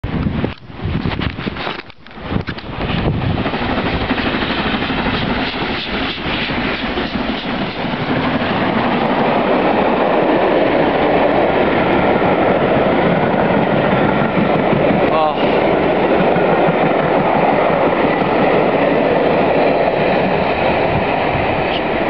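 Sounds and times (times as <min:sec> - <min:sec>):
steam locomotive passing: 0:02.2 - 0:22.0.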